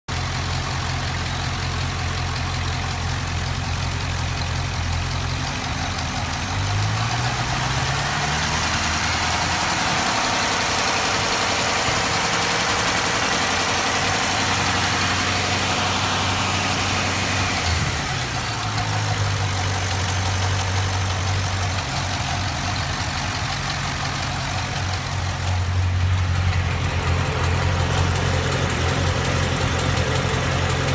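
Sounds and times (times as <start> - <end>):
car engine idling and revving: 0.1 - 30.9
engine ticking noise: 0.1 - 30.9.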